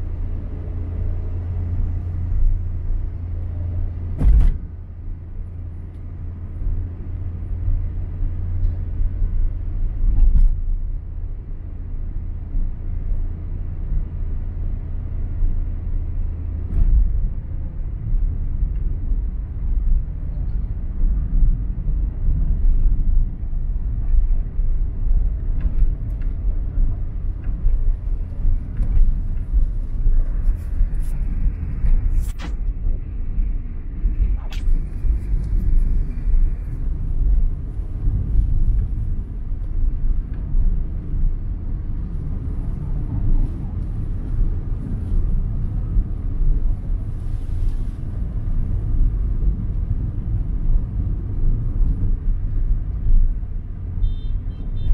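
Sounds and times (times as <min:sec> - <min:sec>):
vehicle engine and tyres rumbling: 0:00.0 - 0:54.9.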